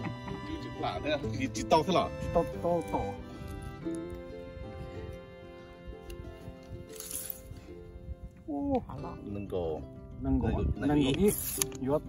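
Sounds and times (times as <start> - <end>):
music with long held notes: 0.0 - 10.5.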